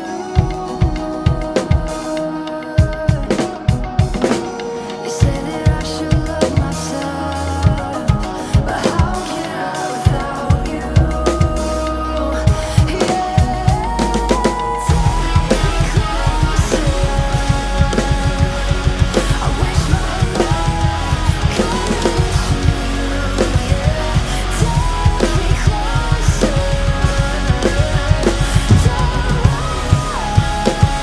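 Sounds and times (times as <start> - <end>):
drum kit playing: 0.0 - 31.0
heavy rock music with guitars: 0.0 - 31.0
rapid kick drum strokes: 0.0 - 31.0.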